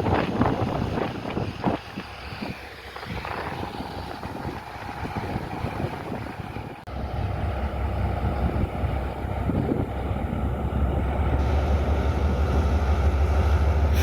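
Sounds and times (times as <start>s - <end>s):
steady low rumble: 0.0s - 14.0s
wind buffeting microphone: 0.0s - 14.0s.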